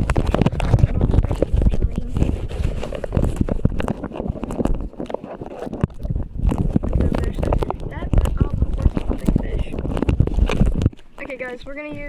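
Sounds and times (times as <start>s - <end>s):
low rumble with clicks: 0.0s - 5.1s, 5.8s - 12.0s
clip-on microphone rustling: 0.0s - 12.0s.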